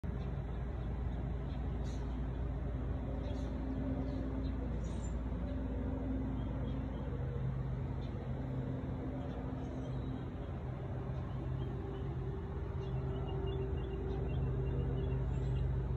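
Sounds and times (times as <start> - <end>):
constant rumble: 0.0 - 15.9
droning tones: 0.0 - 15.9
low mechanical hum: 0.0 - 15.9.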